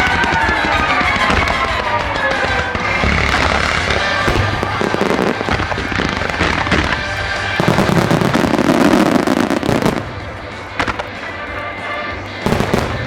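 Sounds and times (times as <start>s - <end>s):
fireworks bursting and crackling: 0.0s - 13.0s
loud music: 0.0s - 13.0s.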